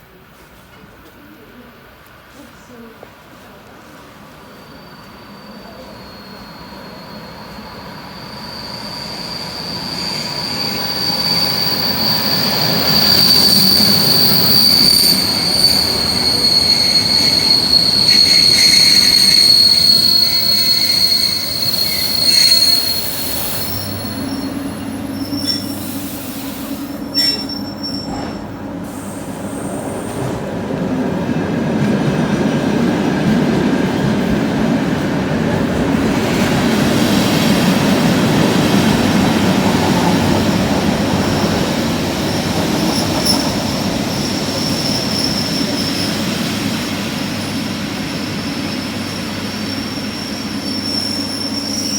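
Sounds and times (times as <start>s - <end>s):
train hum and rumble: 0.0s - 51.9s
train high-pitched squeal: 4.2s - 30.4s, 36.2s - 51.9s.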